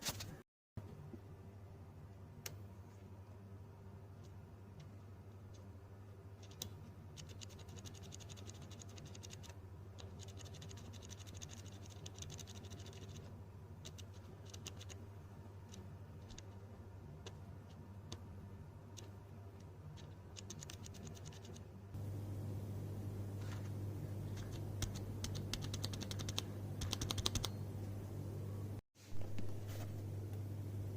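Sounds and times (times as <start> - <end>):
steady low hum: 0.8 - 30.9.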